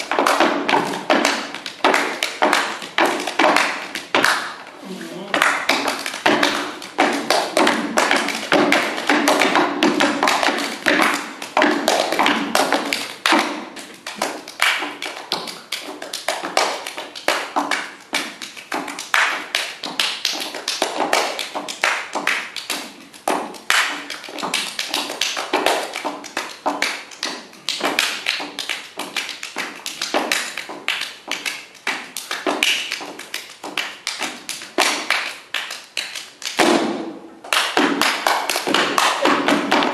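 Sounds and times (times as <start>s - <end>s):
hand claps and body slaps: 0.0s - 39.9s.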